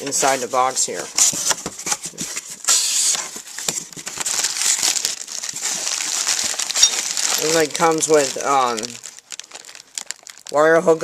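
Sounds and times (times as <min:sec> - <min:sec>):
plastic bags crinkling: 0:00.1 - 0:11.0.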